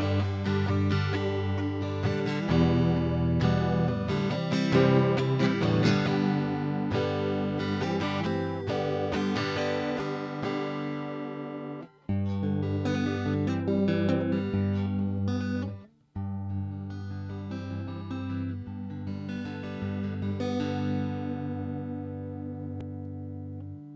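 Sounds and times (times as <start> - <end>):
electric guitar with flanger: 0.0 - 23.9.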